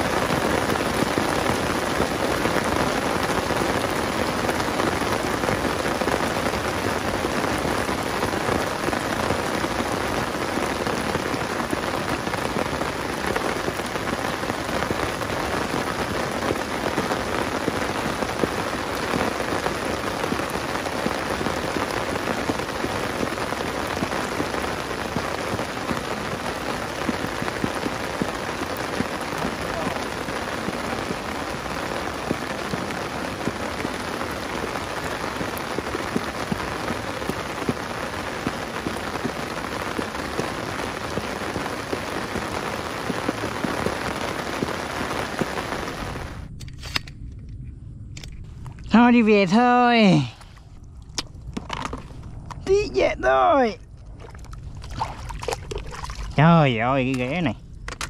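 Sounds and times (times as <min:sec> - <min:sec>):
rain drumming on umbrella: 0:00.0 - 0:47.0, 0:48.4 - 0:58.0
heavy rain on pond: 0:00.0 - 0:47.1, 0:48.2 - 0:58.0.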